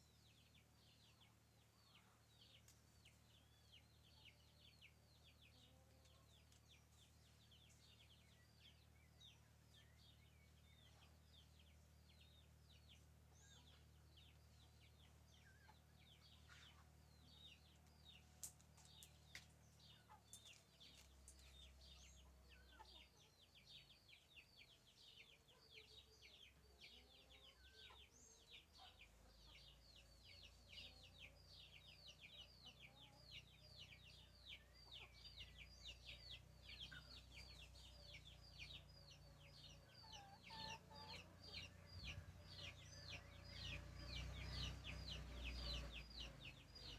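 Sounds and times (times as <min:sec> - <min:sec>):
chickens peeping: 0:00.4 - 0:46.9.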